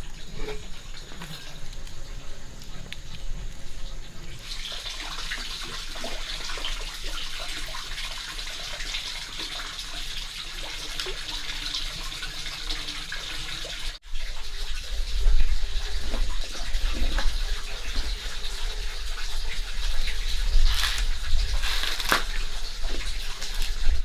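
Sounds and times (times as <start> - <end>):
water running and splashing: 0.0 - 24.0.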